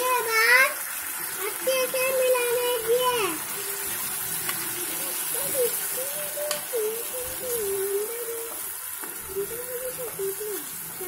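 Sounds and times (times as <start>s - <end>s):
curry bubbling and sizzling in a pot: 0.0s - 11.0s.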